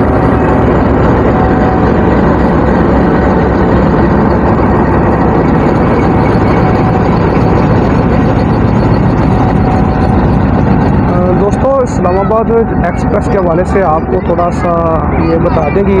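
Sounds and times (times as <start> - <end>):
diesel locomotive engine running: 0.0 - 16.0
train coaches rolling past: 0.0 - 16.0.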